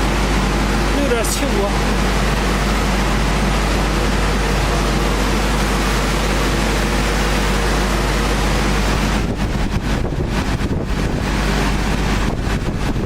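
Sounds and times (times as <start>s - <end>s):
low hum: 0.0s - 13.0s
sanding machinery running: 0.0s - 13.0s.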